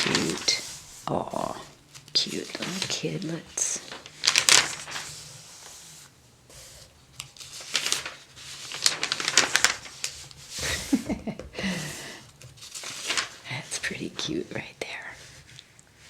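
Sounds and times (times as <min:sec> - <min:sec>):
paper pages rustling: 0:00.0 - 0:14.6.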